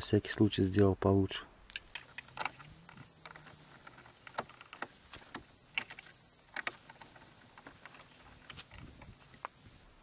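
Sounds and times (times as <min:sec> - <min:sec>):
screwdriver clicks and scrapes: 0:01.7 - 0:09.8.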